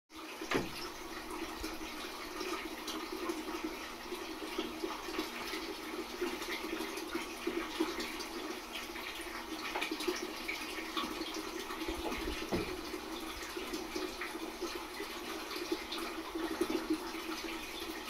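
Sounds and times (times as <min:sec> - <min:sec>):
aquarium water bubbling: 0:00.2 - 0:18.0.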